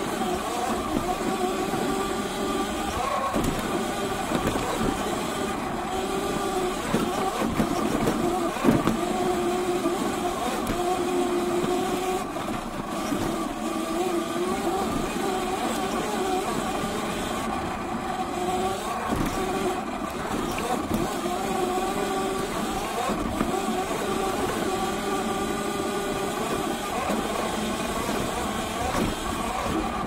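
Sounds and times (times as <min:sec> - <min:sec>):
electric motor whine: 0:00.0 - 0:30.0
tyres rushing on dirt: 0:00.0 - 0:30.0
wind: 0:00.0 - 0:30.0.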